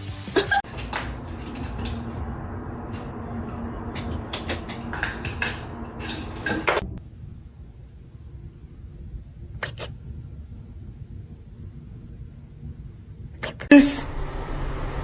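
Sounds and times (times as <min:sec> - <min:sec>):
low steady rumble: 0:00.6 - 0:15.0.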